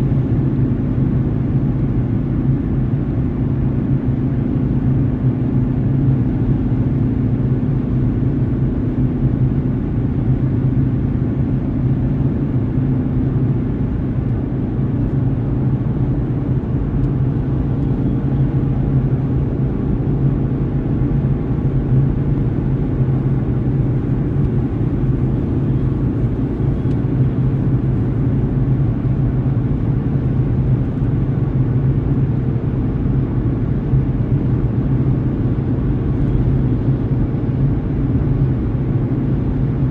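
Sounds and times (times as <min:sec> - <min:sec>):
car driving road and engine noise: 0:00.0 - 0:39.9.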